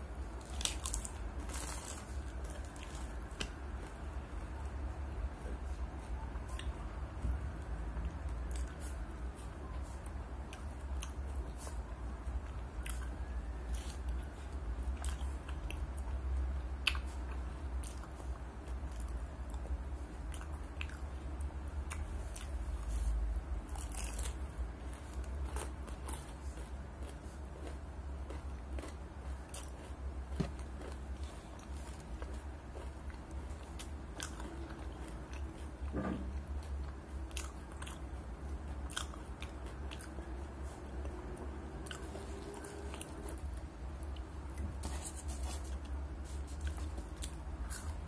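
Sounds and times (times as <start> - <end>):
steady low hum: 0.0 - 48.0
chewing crispy fried chicken: 0.1 - 48.0.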